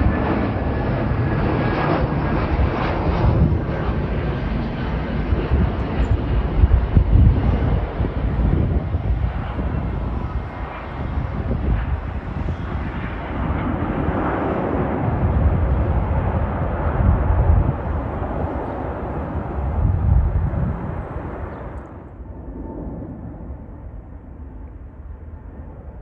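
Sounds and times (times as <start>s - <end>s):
jet airliner engines roaring: 0.0s - 26.0s.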